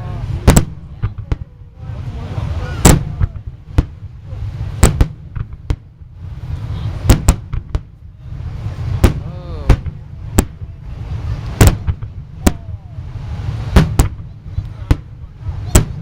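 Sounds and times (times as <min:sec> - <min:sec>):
fireworks bangs: 0:00.0 - 0:16.0
low rumble: 0:00.0 - 0:16.0.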